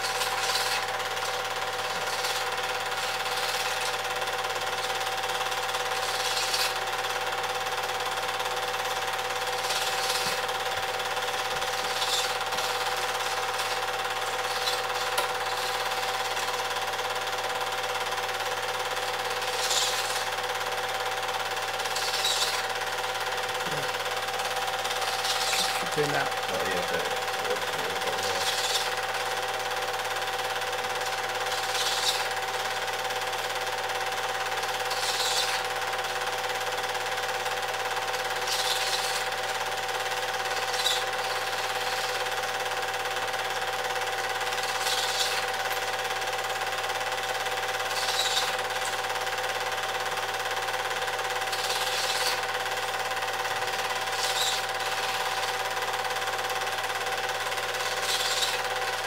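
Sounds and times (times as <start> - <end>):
film projector whirring: 0.0 - 59.0
projector hum: 0.0 - 59.0.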